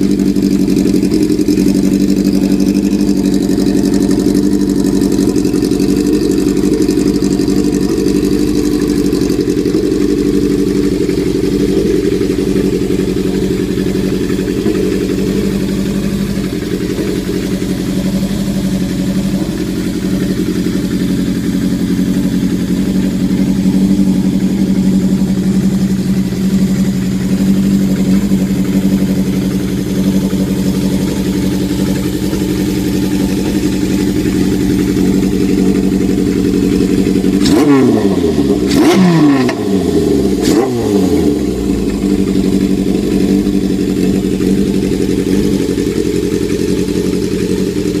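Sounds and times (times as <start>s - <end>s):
motorcycle engine idling: 0.0s - 48.0s
motorcycle throttle revs: 0.0s - 48.0s.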